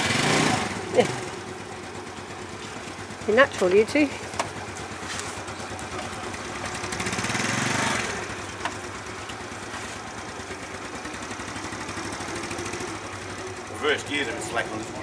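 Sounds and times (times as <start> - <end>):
scooter engine revving: 0.0 - 15.0
scooter engines idling: 0.0 - 15.0.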